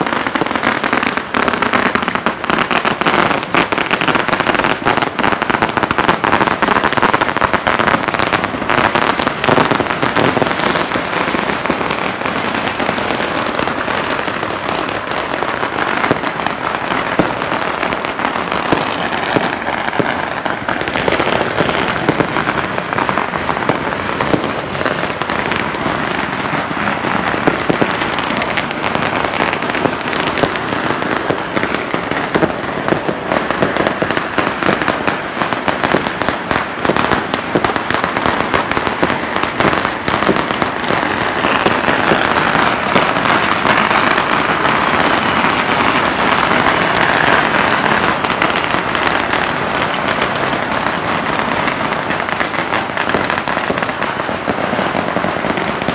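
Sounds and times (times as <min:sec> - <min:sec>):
firecrackers and fireworks crackling: 0:00.0 - 0:55.9.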